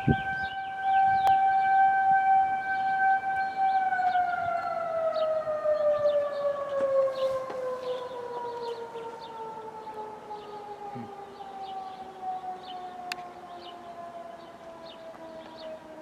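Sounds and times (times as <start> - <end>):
tornado siren winding down: 0.0 - 16.0.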